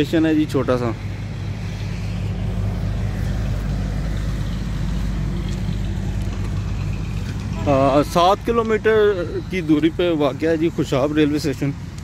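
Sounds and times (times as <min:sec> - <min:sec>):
engine running steadily: 0:00.0 - 0:12.0
road traffic noise: 0:00.0 - 0:12.0.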